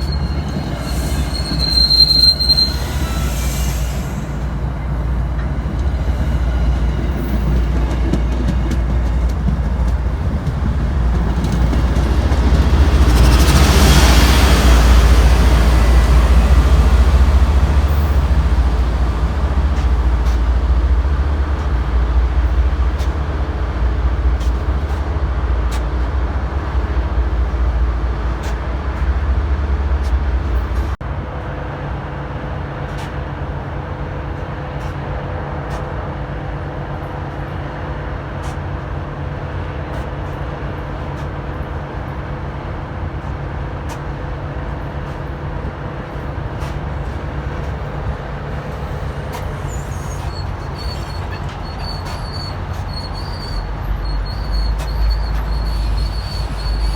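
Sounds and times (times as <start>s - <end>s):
train rumble: 0.0s - 56.9s.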